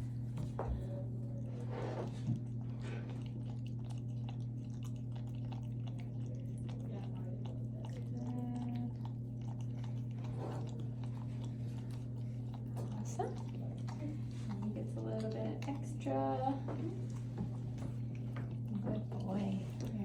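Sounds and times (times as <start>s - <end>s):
steady low hum: 0.0s - 20.0s
puppy chewing clicks: 2.1s - 20.0s.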